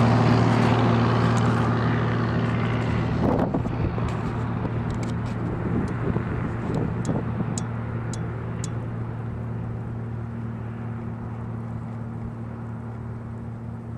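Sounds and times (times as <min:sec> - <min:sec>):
propeller airplane engine droning: 0:00.0 - 0:13.9.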